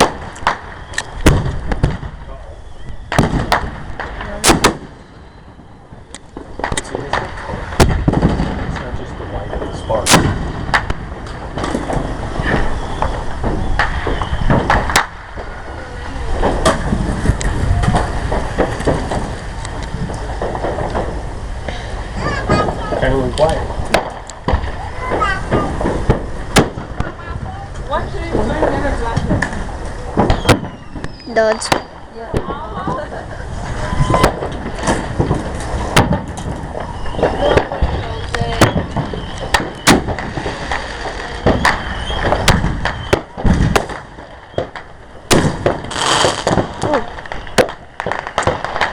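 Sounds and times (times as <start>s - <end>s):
fireworks bangs and pops: 0.0s - 48.9s.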